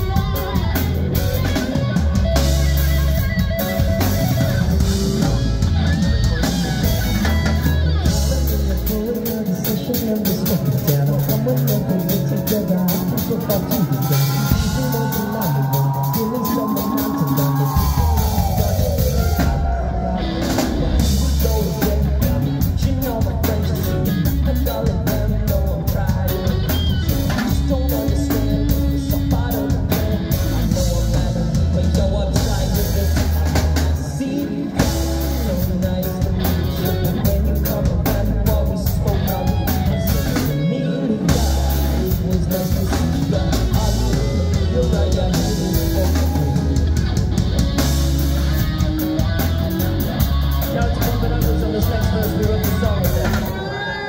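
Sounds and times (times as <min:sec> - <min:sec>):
bass guitar: 0:00.0 - 0:54.0
drum kit: 0:00.0 - 0:54.0
electric guitars: 0:00.0 - 0:54.0
keyboard: 0:00.0 - 0:54.0.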